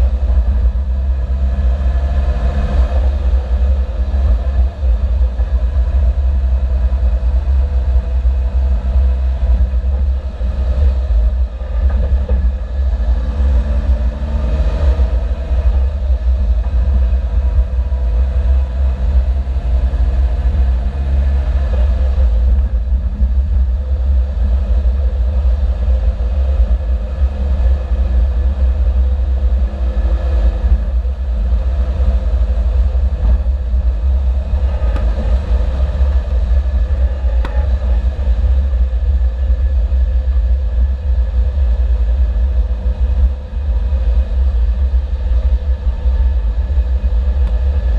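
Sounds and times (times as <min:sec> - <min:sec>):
vehicle engine low rumble: 0:00.0 - 0:47.9.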